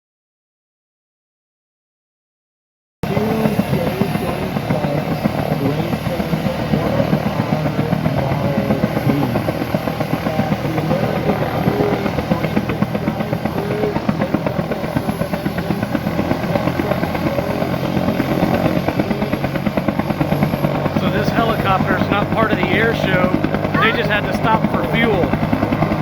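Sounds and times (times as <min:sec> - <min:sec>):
helicopter engine drone: 0:03.0 - 0:26.0
helicopter rotor beating: 0:03.0 - 0:26.0.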